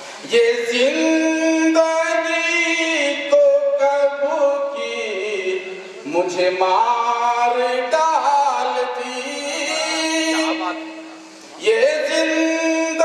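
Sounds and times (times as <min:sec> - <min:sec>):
man singing unaccompanied: 0:00.2 - 0:13.0.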